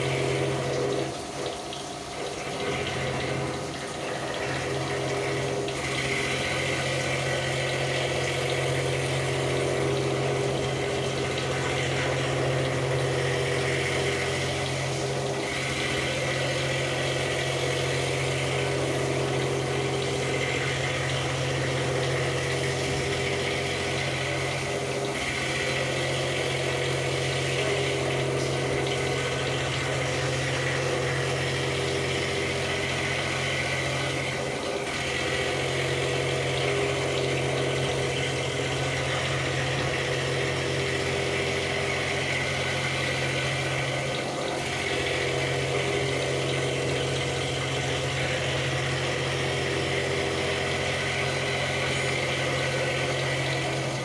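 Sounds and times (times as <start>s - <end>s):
machine hum: 0.0s - 54.0s
milling cutting whine: 0.0s - 54.0s.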